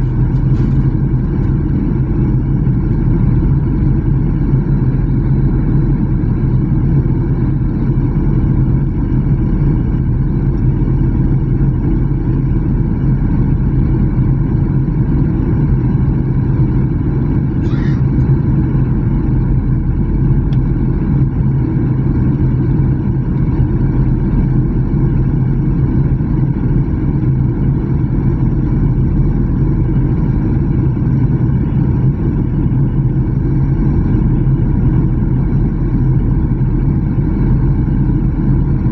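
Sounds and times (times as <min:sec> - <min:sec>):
jet engines droning: 0:00.0 - 0:38.9
low hum: 0:00.0 - 0:38.9.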